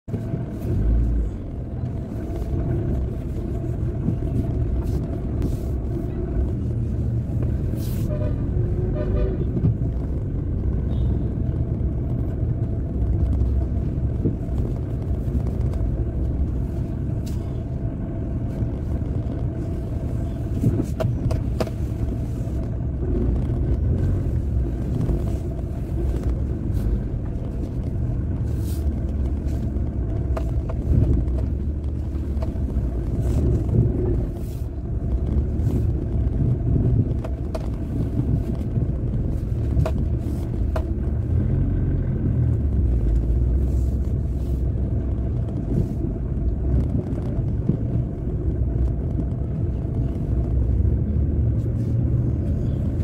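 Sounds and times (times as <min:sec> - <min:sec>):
vehicle engine and road rumble: 0:00.0 - 0:53.0.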